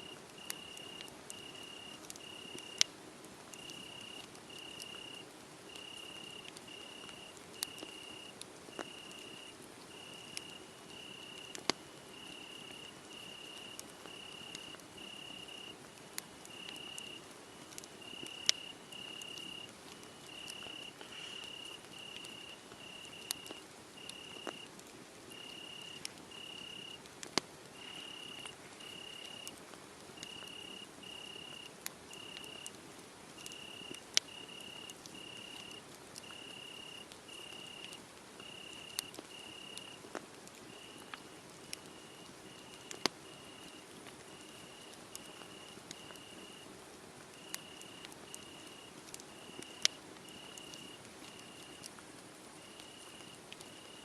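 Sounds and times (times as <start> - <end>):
cricket chirping: 0.0 - 2.9, 3.6 - 15.8, 16.5 - 17.2, 18.0 - 24.7, 25.3 - 27.0, 27.8 - 29.5, 30.2 - 32.7, 33.4 - 40.0, 40.7 - 41.1, 41.7 - 46.6, 47.4 - 51.9, 52.6 - 54.0
wood fire crackling and popping: 0.0 - 54.0.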